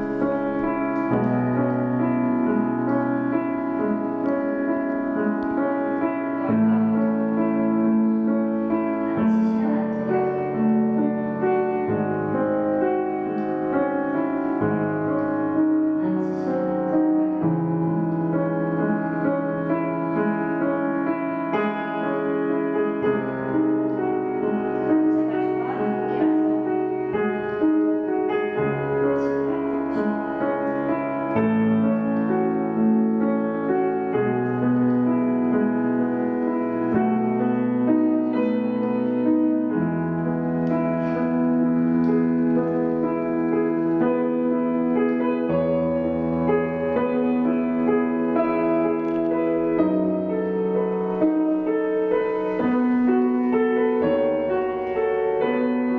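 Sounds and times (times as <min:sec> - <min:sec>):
slow solo piano: 0:00.0 - 0:55.9.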